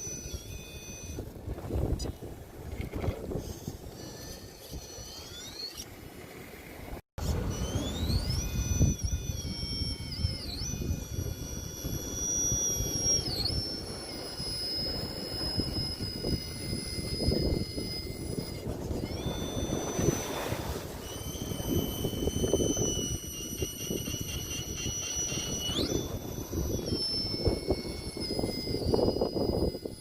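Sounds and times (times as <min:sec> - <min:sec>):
electric motor whining: 0:00.0 - 0:02.0, 0:02.7 - 0:05.8, 0:07.2 - 0:30.0.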